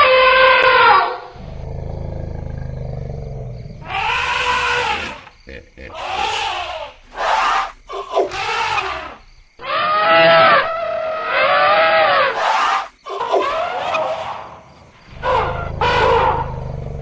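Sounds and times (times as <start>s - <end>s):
elephants trumpeting and bellowing: 0.0s - 17.0s.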